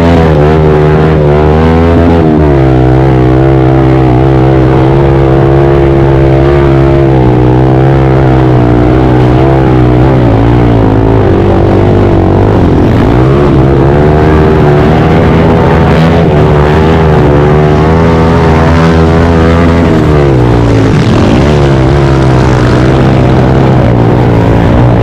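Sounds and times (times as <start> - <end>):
pit bike engines revving: 0.0 - 25.0.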